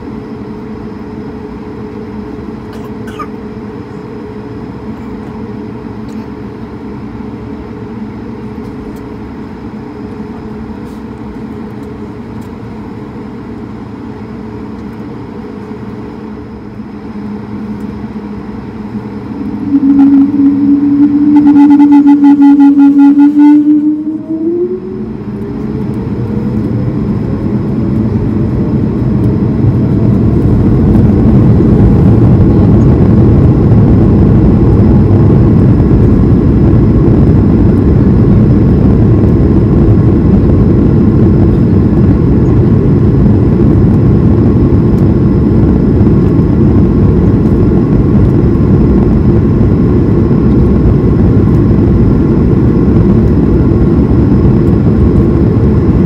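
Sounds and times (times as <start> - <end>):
jet engines spooling up: 0.0 - 56.0
loud steady rushing noise: 0.0 - 56.0.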